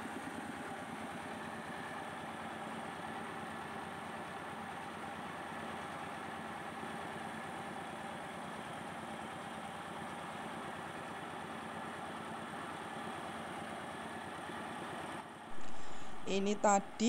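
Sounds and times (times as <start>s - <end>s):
rice mill engine droning: 0.0s - 17.0s.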